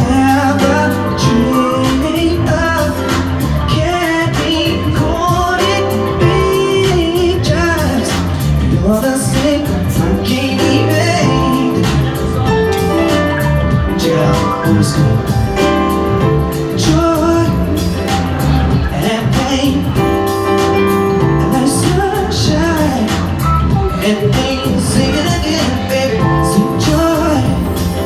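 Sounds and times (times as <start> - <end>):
backing music with steady beat: 0.0 - 28.0
digital piano: 0.0 - 28.0
man singing into microphone: 0.0 - 28.0.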